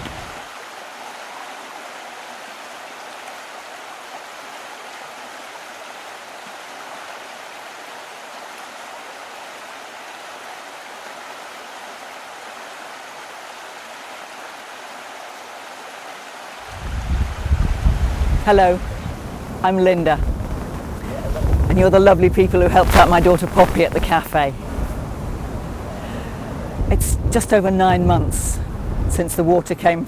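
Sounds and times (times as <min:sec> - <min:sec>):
running water rushing: 0:00.0 - 0:30.0.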